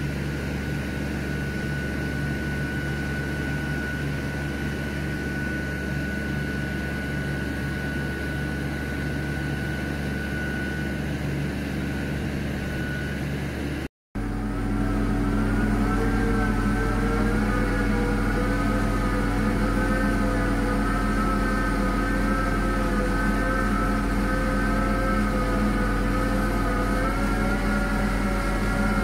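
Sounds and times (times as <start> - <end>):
engine drone: 0.0 - 29.0
hydraulic whine: 0.0 - 29.0.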